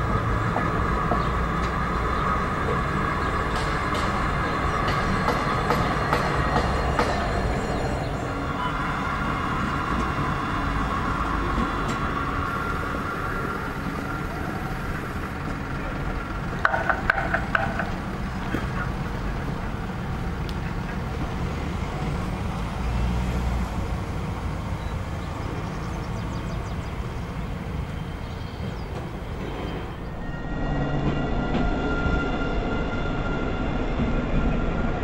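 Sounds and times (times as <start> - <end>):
tram rumble and hum: 0.0 - 35.0.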